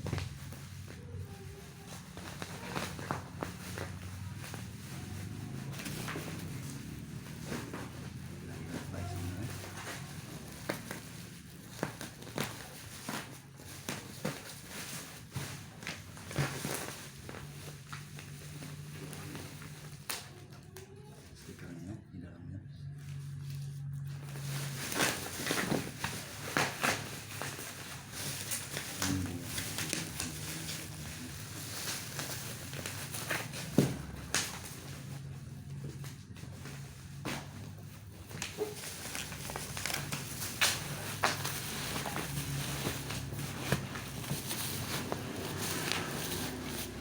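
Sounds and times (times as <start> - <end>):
packaging crackling and rustling: 0.0 - 21.6, 23.1 - 47.0.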